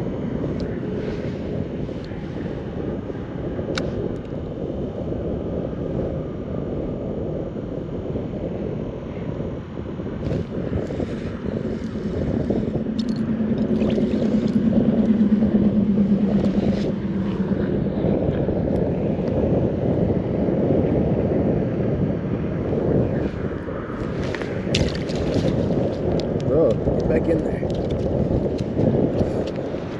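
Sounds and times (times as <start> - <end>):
faint hum: 0.0 - 29.9
wind buffeting microphone: 0.0 - 29.9.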